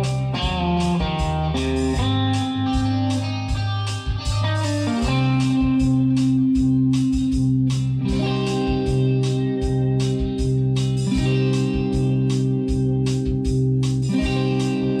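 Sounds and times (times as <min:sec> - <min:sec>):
bass line: 0:00.0 - 0:15.0
electric guitar music: 0:00.0 - 0:15.0
steady drum beat: 0:00.0 - 0:15.0.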